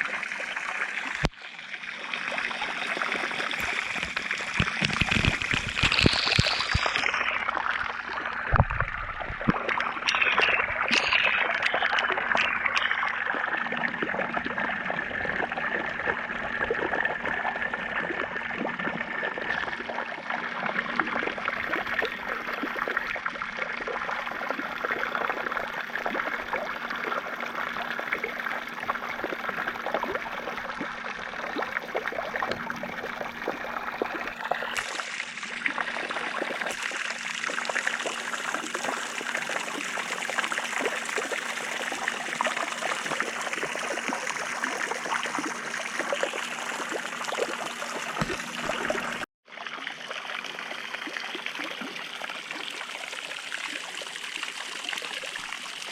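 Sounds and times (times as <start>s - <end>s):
water pouring and splashing: 0.0s - 55.9s.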